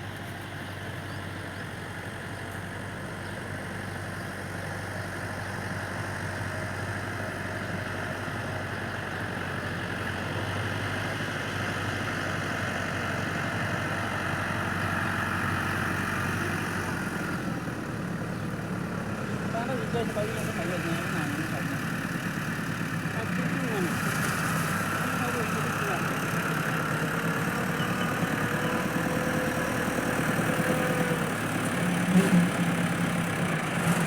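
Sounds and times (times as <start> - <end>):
tractor engine idling: 0.0 - 34.0.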